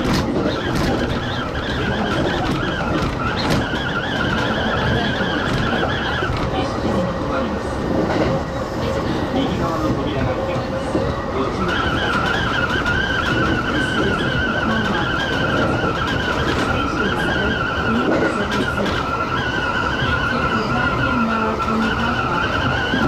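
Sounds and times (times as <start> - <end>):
train running gear rumble: 0.0 - 23.0
train wheels squealing: 0.4 - 7.1, 8.8 - 23.0.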